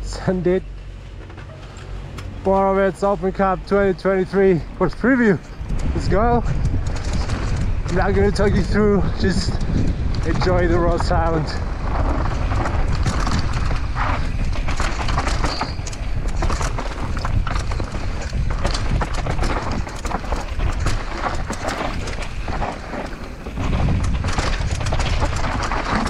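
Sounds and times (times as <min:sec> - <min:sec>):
bike tyres crunching over dirt: 0:00.0 - 0:26.0
wind rumble on microphone: 0:00.0 - 0:26.0
bike clattering over bumps: 0:01.1 - 0:26.0.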